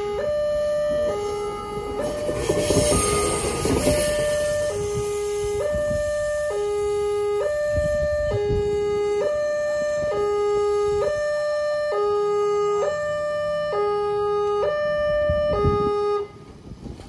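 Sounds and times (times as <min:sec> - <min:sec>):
two-tone crossing alarm: 0:00.0 - 0:16.7.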